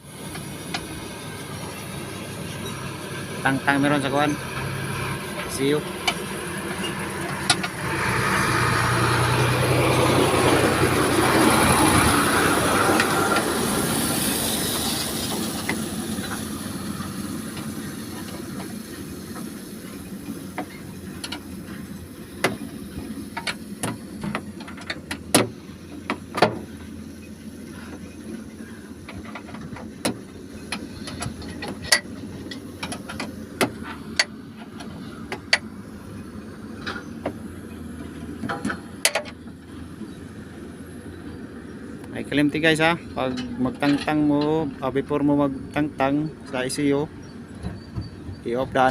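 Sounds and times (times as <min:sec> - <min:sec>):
loud mechanical rushing noise: 0:00.0 - 0:43.2.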